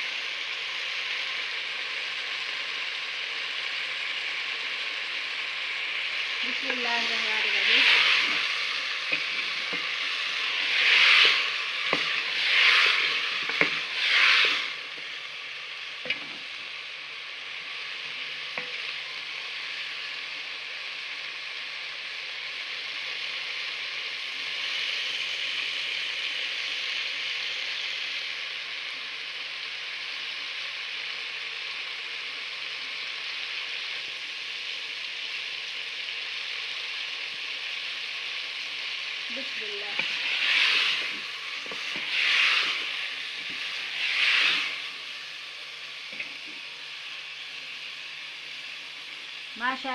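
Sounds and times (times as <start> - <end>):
vegetables sizzling in oil: 0.0 - 49.9.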